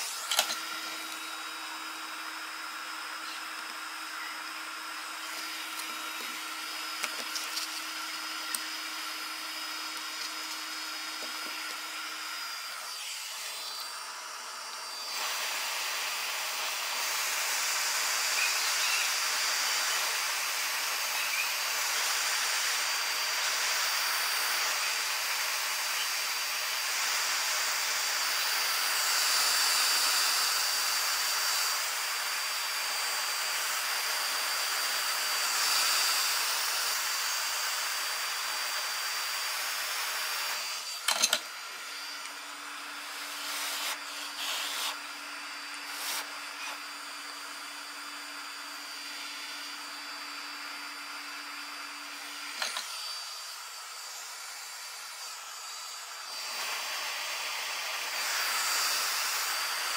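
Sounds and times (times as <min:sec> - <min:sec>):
hot air gun hissing: 0:00.0 - 0:59.9.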